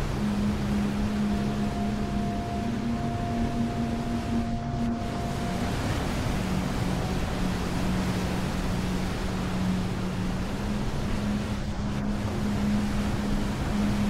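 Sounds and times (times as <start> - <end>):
low ambient drone: 0.0 - 14.0
ocean surf: 0.0 - 14.0.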